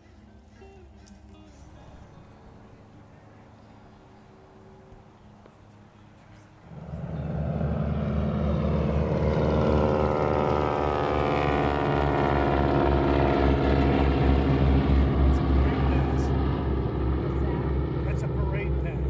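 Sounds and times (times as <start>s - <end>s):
propeller aircraft engine throbbing: 1.1s - 19.0s.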